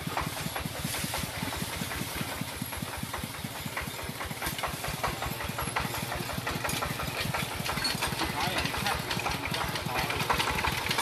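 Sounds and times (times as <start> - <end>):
diesel tractor engine chugging: 0.0 - 11.0.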